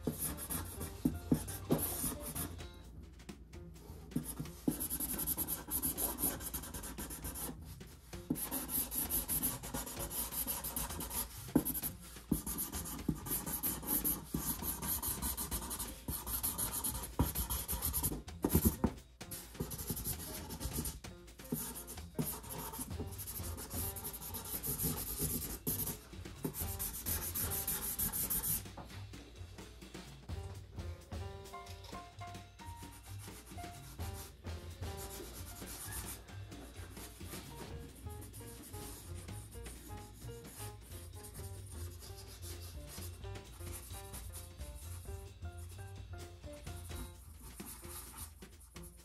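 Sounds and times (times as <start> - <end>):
marker scrubbing on cardboard: 0.0 - 2.6, 3.8 - 28.9, 32.9 - 45.7, 46.6 - 49.0.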